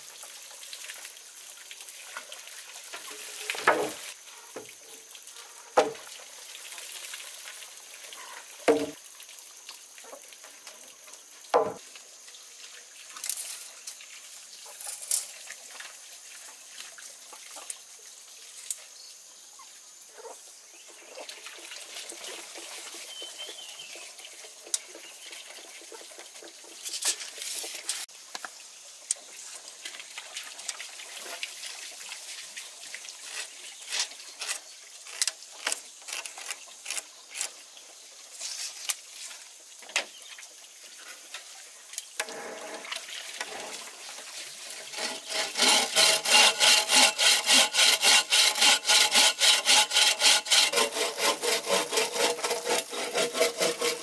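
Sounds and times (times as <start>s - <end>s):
water trickling and splashing: 0.0s - 20.0s, 20.6s - 54.0s.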